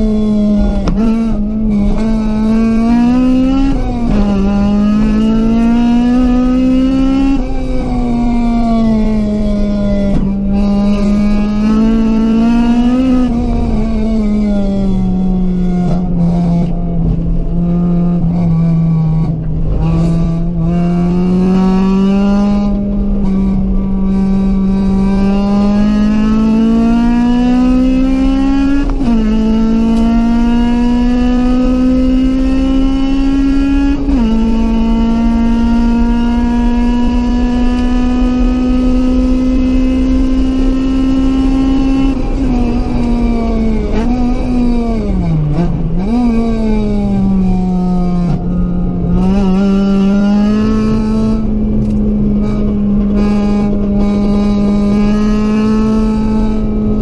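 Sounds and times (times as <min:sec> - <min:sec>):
car engine revving with upshifts: 0:00.0 - 0:57.0.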